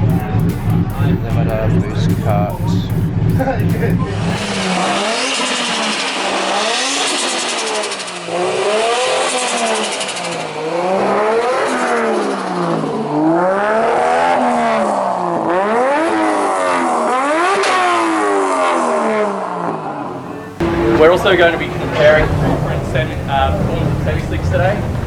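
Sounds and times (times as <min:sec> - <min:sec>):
race car engine revving: 0:00.0 - 0:19.4, 0:20.0 - 0:25.0.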